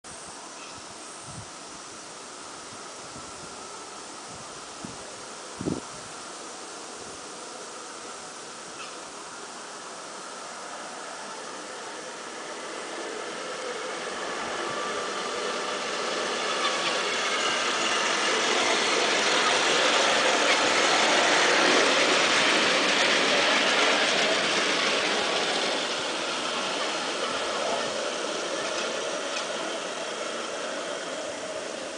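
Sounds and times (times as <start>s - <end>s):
model train running on track: 0.2s - 31.9s.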